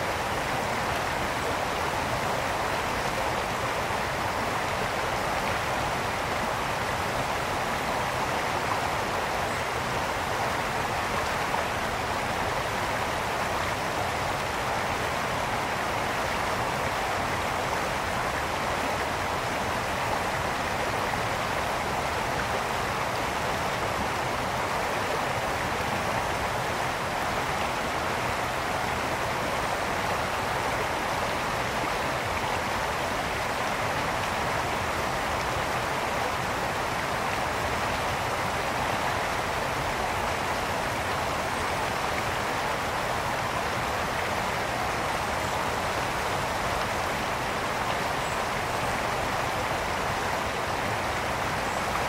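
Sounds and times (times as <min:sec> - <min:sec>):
brook flowing over stones: 0:00.0 - 0:52.0.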